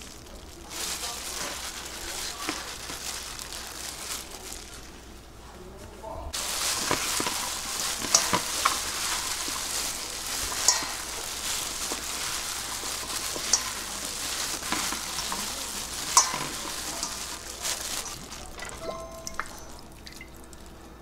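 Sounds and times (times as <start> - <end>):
gloved hands rustling food: 0.0 - 5.6, 6.3 - 21.0.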